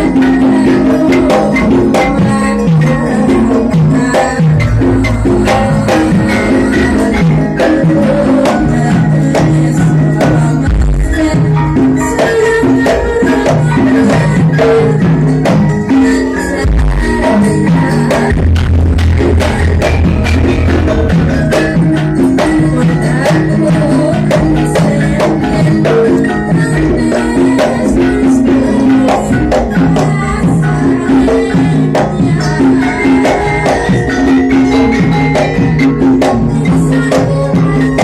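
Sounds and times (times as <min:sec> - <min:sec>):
loud music with fast percussion: 0:00.0 - 0:38.0.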